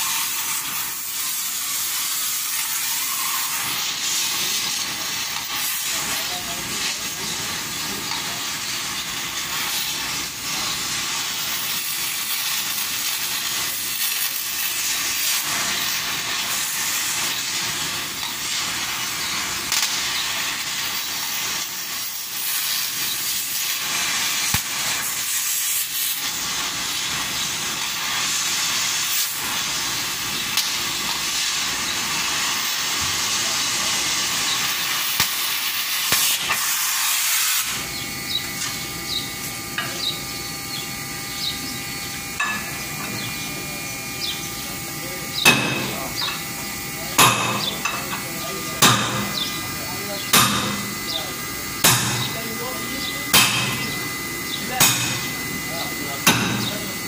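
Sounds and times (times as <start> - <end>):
welding arc hissing: 0.0 - 57.0.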